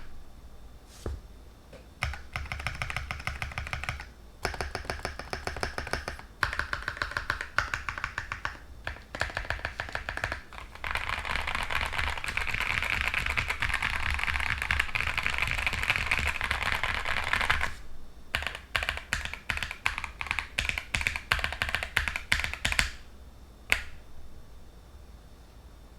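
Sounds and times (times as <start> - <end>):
typing on mechanical keyboard: 2.0 - 23.0, 23.7 - 24.0.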